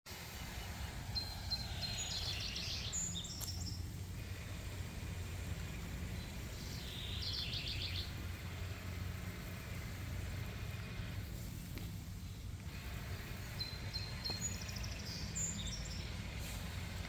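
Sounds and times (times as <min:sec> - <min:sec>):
birds chirping: 0:00.1 - 0:17.0
low background rumble: 0:00.1 - 0:17.0.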